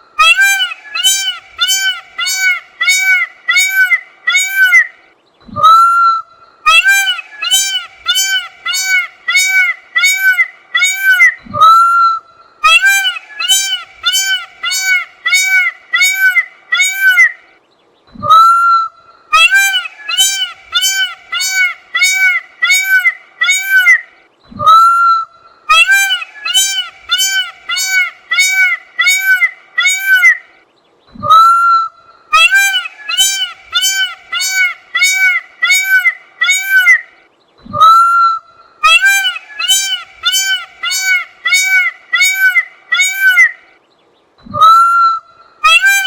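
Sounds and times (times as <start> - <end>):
peacock honking calls: 0.2 - 4.9, 5.6 - 12.0, 12.6 - 17.4, 19.3 - 25.0, 25.7 - 30.5, 32.3 - 37.1, 38.8 - 43.6, 44.6 - 46.0.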